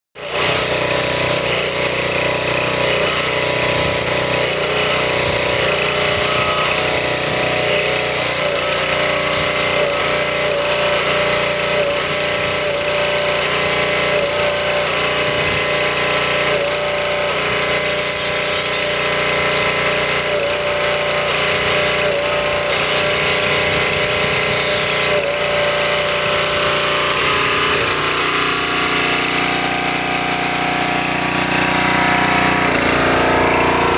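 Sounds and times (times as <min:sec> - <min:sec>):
pressure washer drone: 0:00.2 - 0:33.9
spray hissing: 0:02.6 - 0:33.9.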